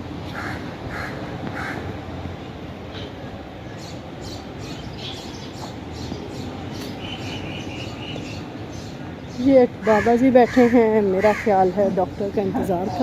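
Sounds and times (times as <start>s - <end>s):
low background noise: 0.0s - 13.0s
birds calling: 0.3s - 13.0s.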